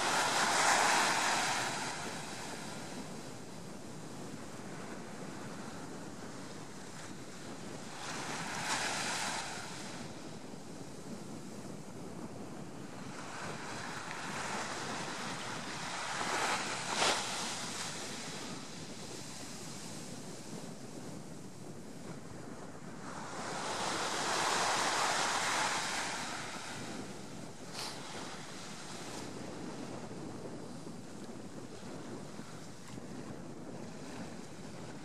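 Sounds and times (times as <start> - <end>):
sea waves washing up a beach: 0.0 - 11.6, 12.6 - 35.0.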